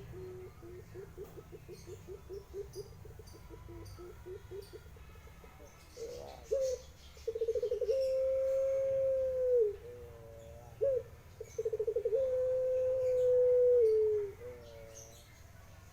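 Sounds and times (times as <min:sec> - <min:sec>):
dove cooing: 0:00.0 - 0:15.2.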